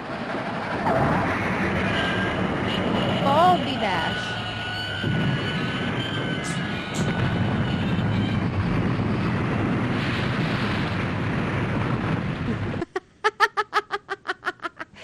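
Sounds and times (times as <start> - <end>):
steady rushing noise: 0.0 - 12.9.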